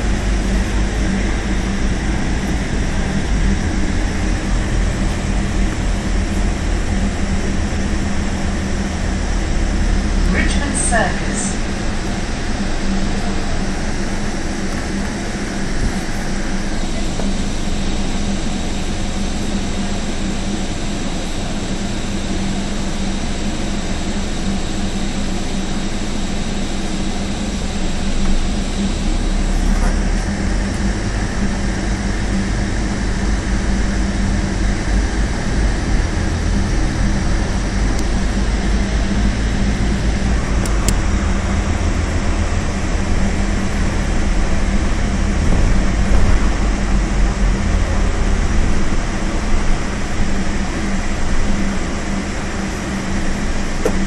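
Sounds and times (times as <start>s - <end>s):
bus engine drone from inside: 0.0s - 54.0s.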